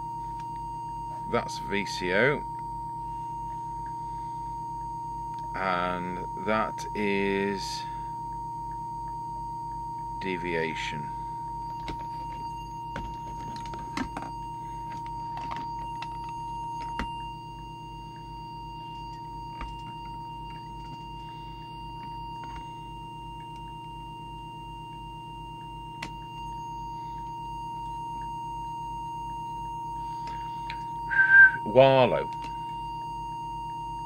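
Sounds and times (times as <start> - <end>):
low pulsing hum: 0.0 - 34.0
steady test tone: 0.0 - 34.0.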